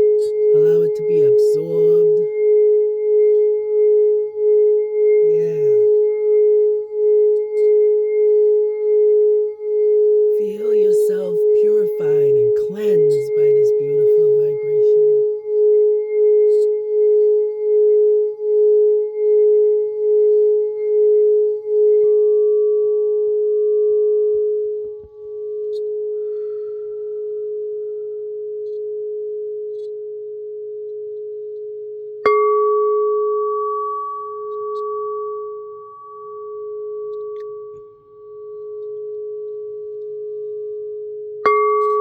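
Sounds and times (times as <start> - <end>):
singing bowl tone: 0.0 - 42.0.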